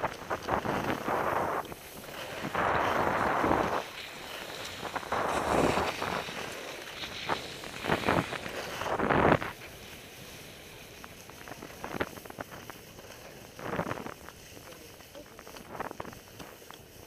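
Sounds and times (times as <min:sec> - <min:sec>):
skis scraping on snow: 0:00.0 - 0:17.0.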